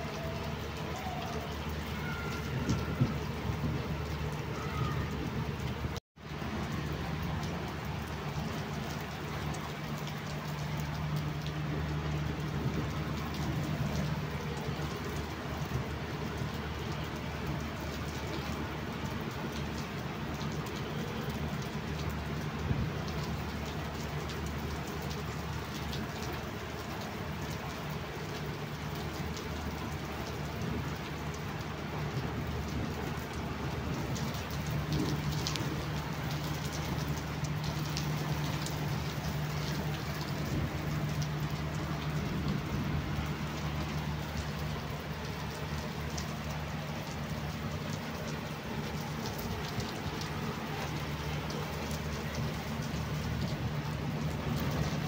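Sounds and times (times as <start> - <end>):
heavy rain on water-covered rooftop: 0.0 - 55.0.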